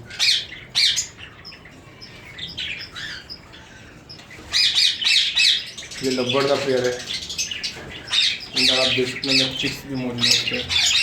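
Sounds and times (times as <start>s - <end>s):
pet birds calling: 0.0s - 11.0s
soft bird chirps: 0.0s - 11.0s.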